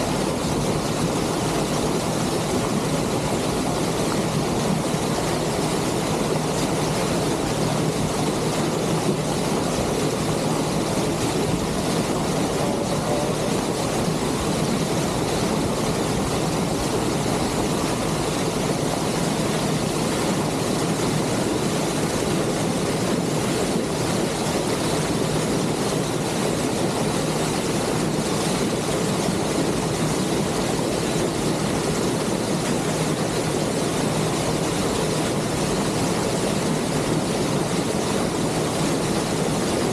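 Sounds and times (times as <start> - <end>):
ship engine drone: 0.0 - 39.9
water rushing along hull: 0.0 - 39.9.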